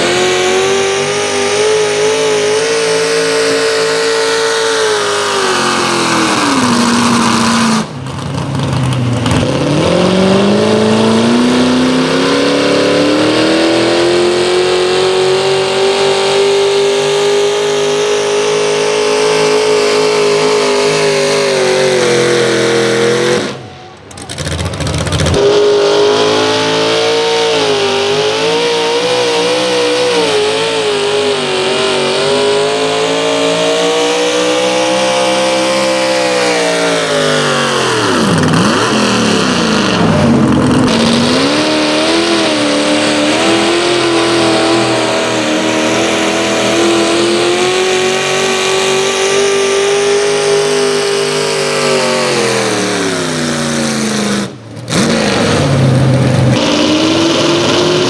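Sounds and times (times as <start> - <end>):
tractor engine revving hard: 0.0 - 58.0.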